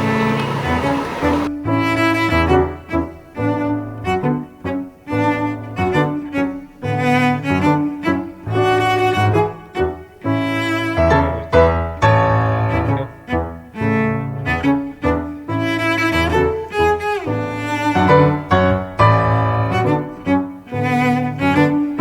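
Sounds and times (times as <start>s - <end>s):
instrumental background music: 0.0s - 22.0s.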